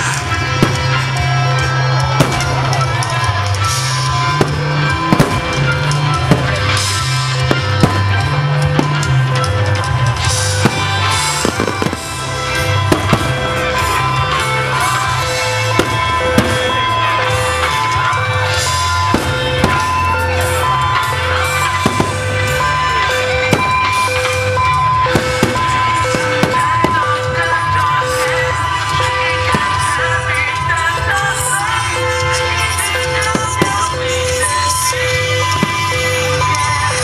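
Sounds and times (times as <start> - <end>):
loud music with pulsing bass: 0.0 - 37.0.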